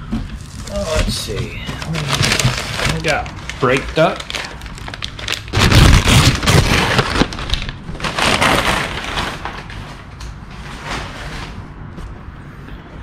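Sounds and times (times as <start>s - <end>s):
packing paper crinkling: 0.4s - 11.6s.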